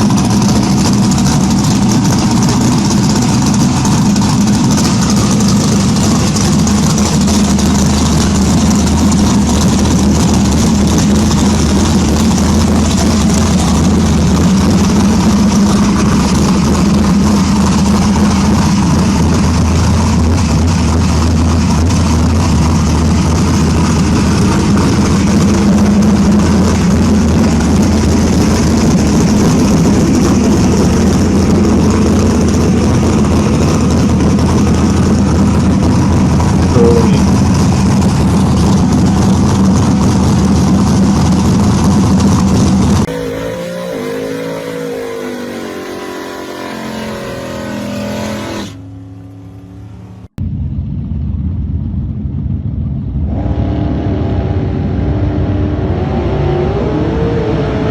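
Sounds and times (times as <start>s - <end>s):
car engine revving: 0.0s - 50.4s
muscle car engine running: 0.0s - 53.6s.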